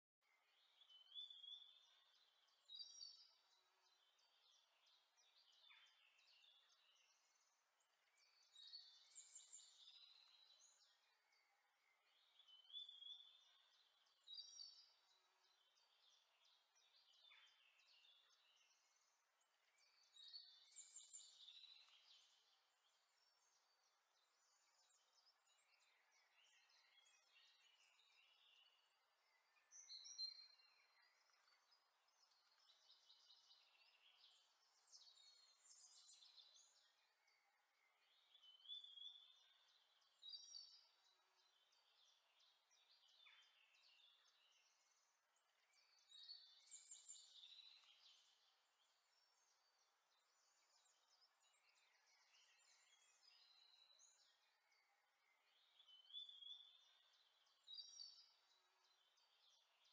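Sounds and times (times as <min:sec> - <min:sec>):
faint birdsong chirps and trills: 0:00.0 - 0:59.9.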